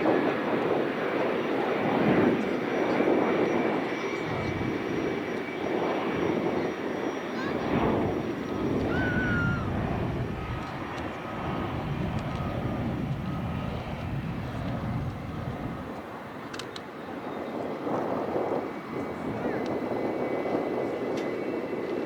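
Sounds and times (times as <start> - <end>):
airliner engine rumble: 0.1 - 22.0.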